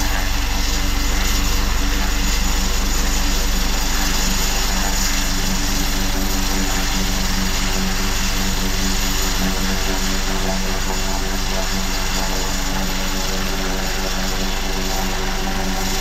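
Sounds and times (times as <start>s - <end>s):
helicopter rotor beat: 0.0s - 16.0s
steady hum: 0.0s - 16.0s
turbine rushing noise: 0.0s - 16.0s.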